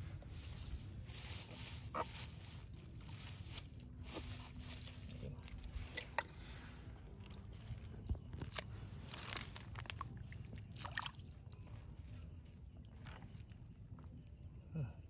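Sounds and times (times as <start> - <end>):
crackles and clicks of wet bamboo: 1.1 - 14.6
water sloshing in basket: 1.4 - 13.5.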